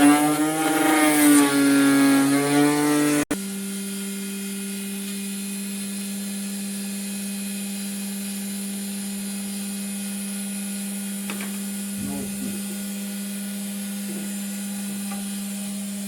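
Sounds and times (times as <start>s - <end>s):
wood router motor humming: 0.0s - 16.0s.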